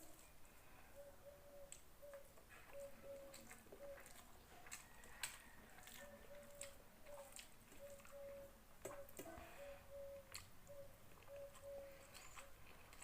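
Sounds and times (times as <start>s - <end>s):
eating and chewing: 0.0s - 13.0s.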